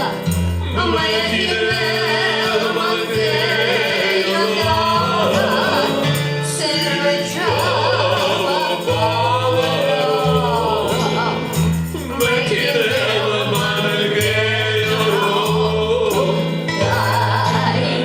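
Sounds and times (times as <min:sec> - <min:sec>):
band accompaniment: 0:00.0 - 0:18.0
bass line: 0:00.0 - 0:18.0
person singing with vibrato: 0:00.0 - 0:18.0.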